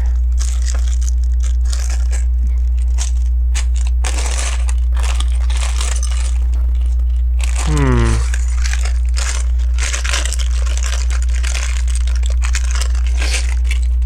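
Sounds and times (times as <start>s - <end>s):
plastic bag crinkling: 0.0s - 14.0s
steady low hum: 0.0s - 14.0s.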